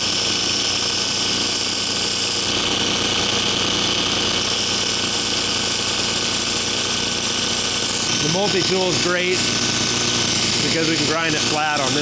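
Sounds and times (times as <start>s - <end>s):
belt grinder grinding metal: 0.0s - 12.0s.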